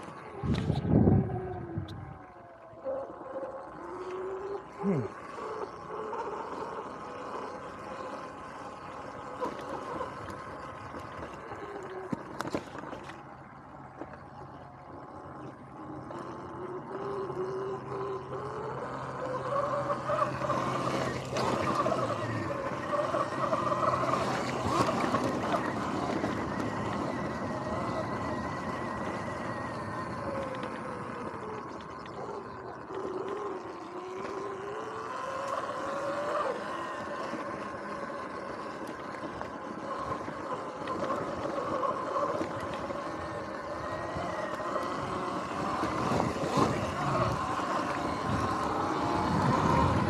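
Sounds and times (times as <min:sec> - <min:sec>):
electric motor whine: 0:00.0 - 0:50.0.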